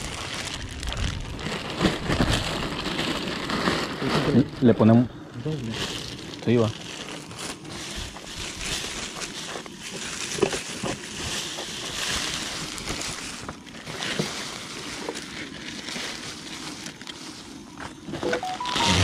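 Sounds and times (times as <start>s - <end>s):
plastic bags rustling: 0.0s - 19.0s.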